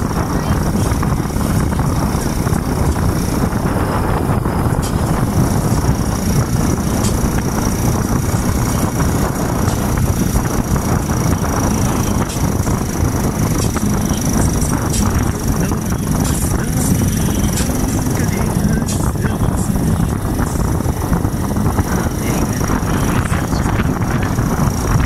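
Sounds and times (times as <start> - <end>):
vehicle driving rumble: 0.0 - 25.0
wind buffeting microphone: 0.0 - 25.0.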